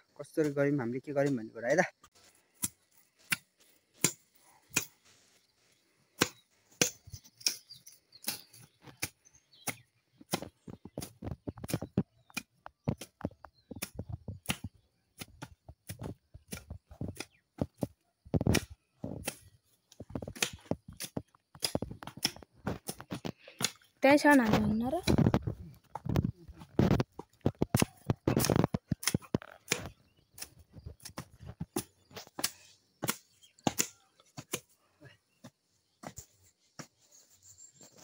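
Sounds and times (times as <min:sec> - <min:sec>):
hand blade chopping grass and soil: 0:02.1 - 0:05.4, 0:06.1 - 0:38.0.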